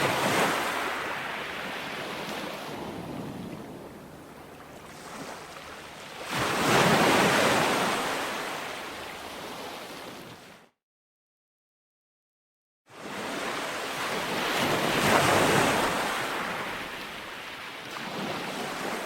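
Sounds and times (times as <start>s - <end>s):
ocean waves on a beach: 0.0s - 10.7s, 12.9s - 19.0s.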